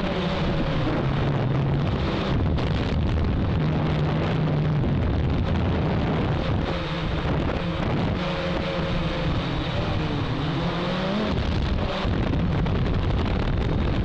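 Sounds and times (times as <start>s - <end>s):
drone motors and propellers droning: 0.0s - 14.0s
wind rushing over microphone: 0.0s - 14.0s.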